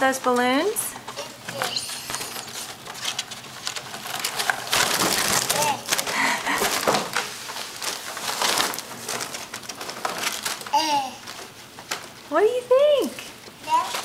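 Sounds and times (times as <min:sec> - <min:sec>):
foil balloons crinkling: 0:00.0 - 0:14.0.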